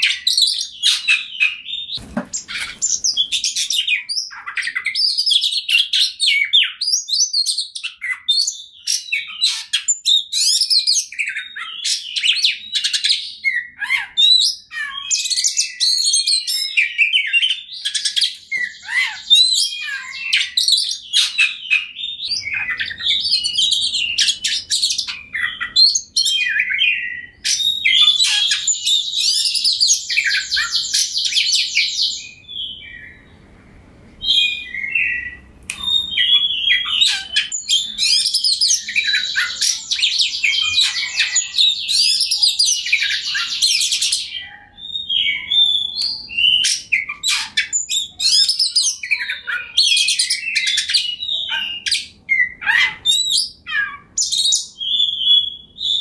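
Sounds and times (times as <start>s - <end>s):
bird singing whistles and chirps: 0.0s - 33.4s, 34.2s - 56.0s.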